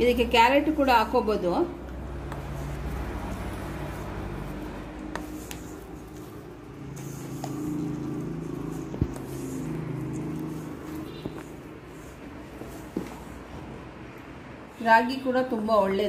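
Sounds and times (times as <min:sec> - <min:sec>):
low mechanical hum: 0:00.0 - 0:14.8.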